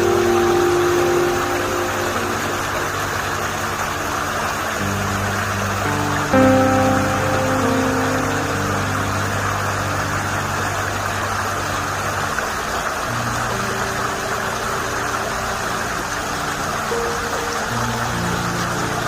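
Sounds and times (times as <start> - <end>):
low background music: 0.0 - 19.0
stream water rushing: 0.0 - 19.0.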